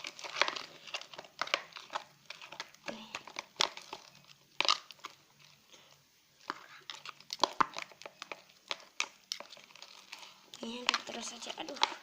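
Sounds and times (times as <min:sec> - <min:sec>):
slime being stirred: 0:00.0 - 0:12.0.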